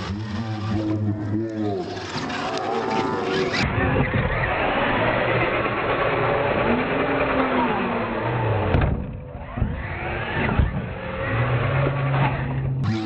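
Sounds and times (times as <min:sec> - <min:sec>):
toy truck motor whine: 0:00.0 - 0:08.7, 0:09.4 - 0:13.0.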